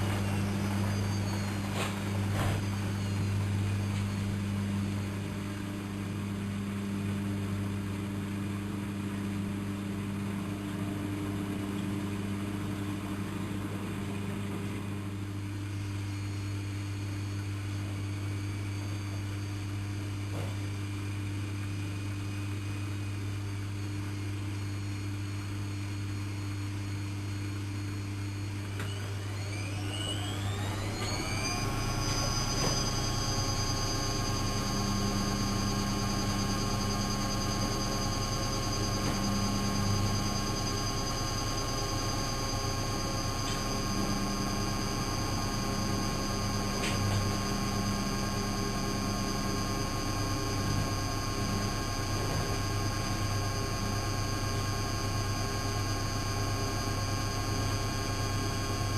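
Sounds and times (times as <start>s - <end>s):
motor whine rising: 0.0s - 21.5s, 24.8s - 58.9s
washing machine humming: 0.0s - 58.9s.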